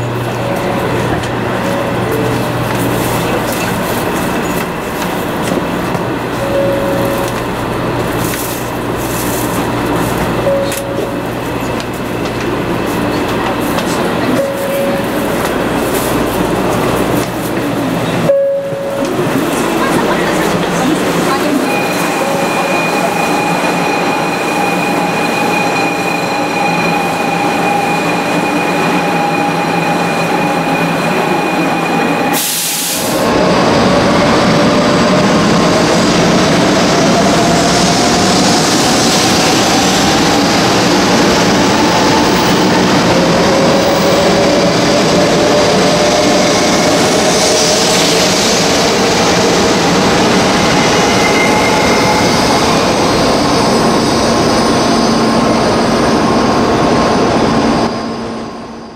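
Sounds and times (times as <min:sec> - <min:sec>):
train running noise with motor whine: 0:00.0 - 0:58.9.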